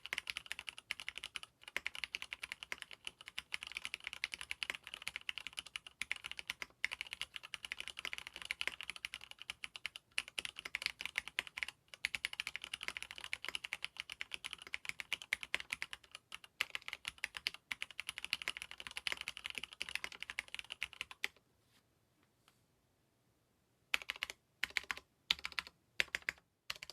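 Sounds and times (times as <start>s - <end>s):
fast typing on mechanical keyboard: 0.0s - 21.4s, 23.9s - 26.9s.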